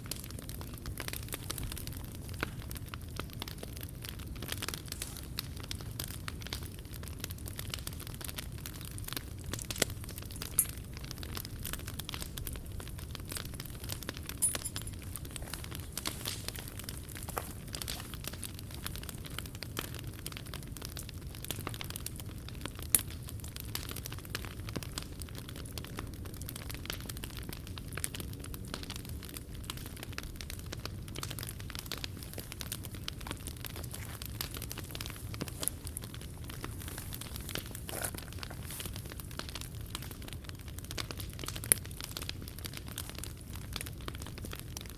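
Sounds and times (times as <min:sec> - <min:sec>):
campfire crackling: 0:00.0 - 0:44.9
fire pops and snaps: 0:00.0 - 0:44.9.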